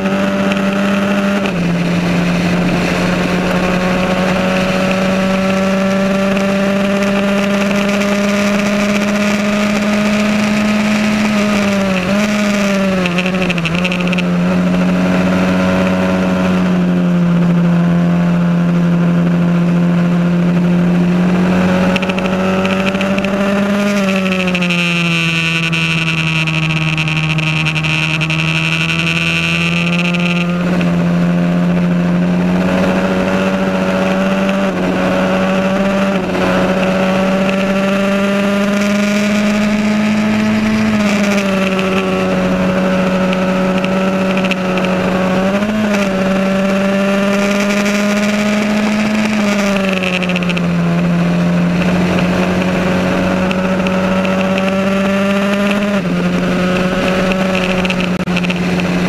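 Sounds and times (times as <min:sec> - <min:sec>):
racing car engine at high revs: 0:00.0 - 0:59.0.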